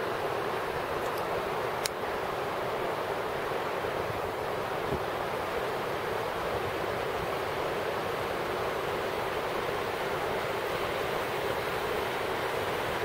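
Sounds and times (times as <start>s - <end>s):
river water over rocks: 0.0s - 13.0s.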